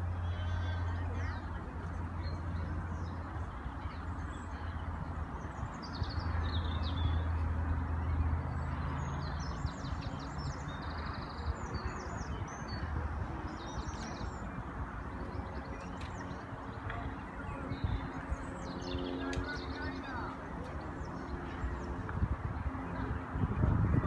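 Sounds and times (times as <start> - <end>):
songbirds singing: 0.0 - 24.0
steady low rumble: 0.0 - 24.0.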